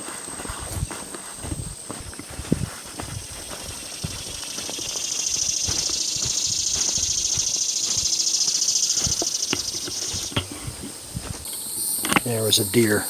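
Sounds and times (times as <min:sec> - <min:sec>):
footsteps on leaf litter: 0:00.0 - 0:11.5
pulsing insect buzz: 0:00.5 - 0:12.2.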